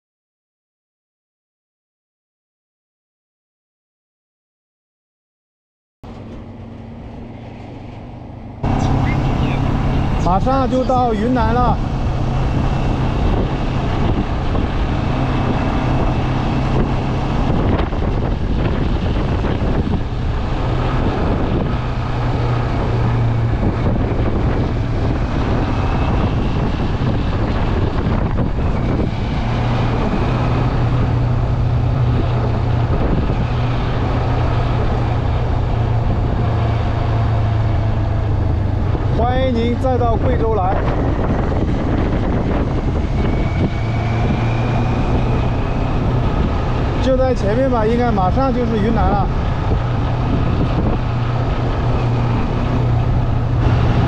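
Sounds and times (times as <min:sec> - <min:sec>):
low hum: 0:06.0 - 0:54.0
road noise: 0:06.0 - 0:54.0
wind rush: 0:06.2 - 0:54.0.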